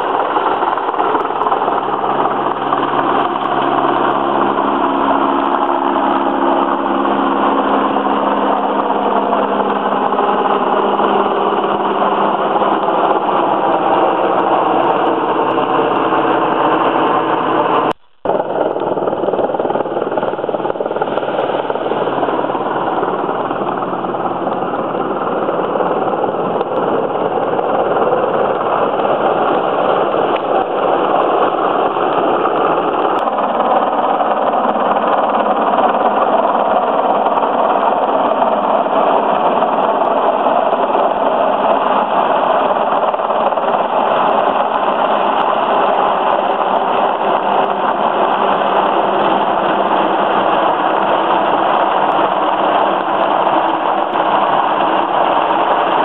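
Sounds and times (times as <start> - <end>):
helicopter flying overhead: 0.0 - 56.0
low hum: 0.0 - 56.0.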